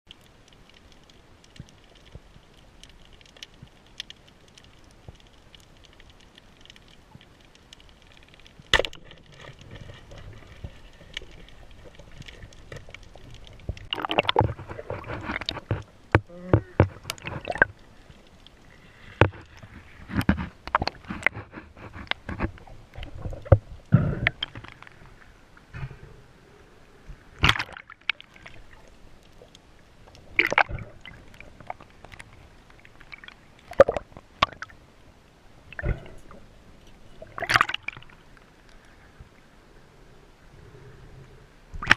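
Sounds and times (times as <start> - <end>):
water sloshing and splashing: 0.1 - 26.0, 27.0 - 39.4.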